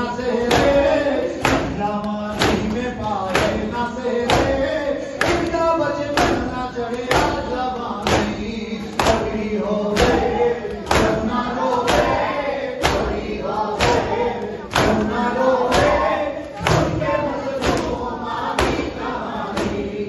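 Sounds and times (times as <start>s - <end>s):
crowd beating chests in unison: 0.0s - 20.0s
men chanting: 0.0s - 20.0s.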